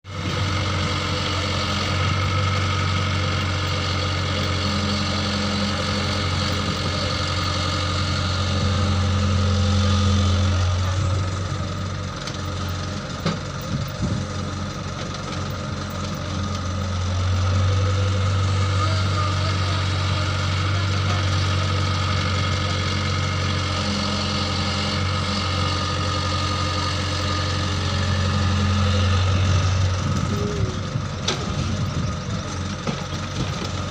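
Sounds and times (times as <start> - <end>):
farm machine engine humming: 0.0 - 33.9.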